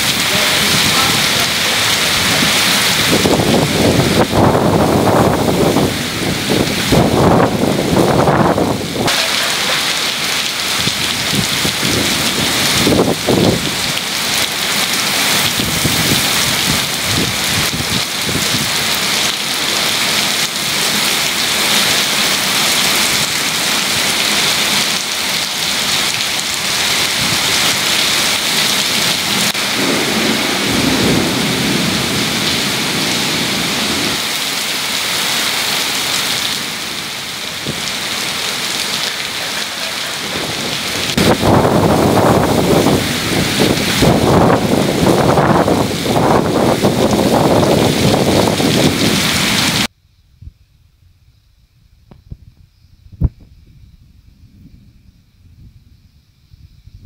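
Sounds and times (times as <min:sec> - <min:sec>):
torrential rain on pavement: 0:00.0 - 0:50.0.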